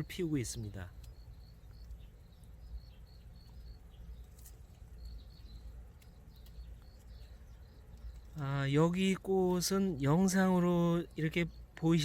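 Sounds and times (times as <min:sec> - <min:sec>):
faint high chirps: 0:00.0 - 0:12.0
steady low rumble: 0:00.0 - 0:12.0.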